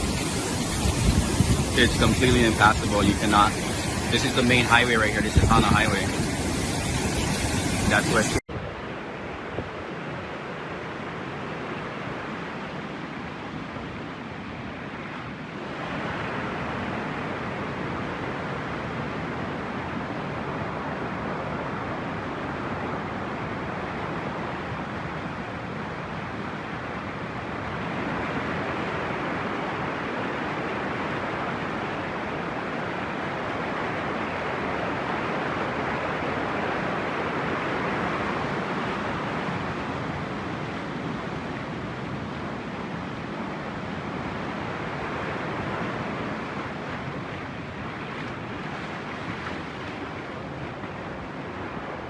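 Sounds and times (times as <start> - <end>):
floodwater rushing: 0.0 - 18.8, 20.6 - 52.0.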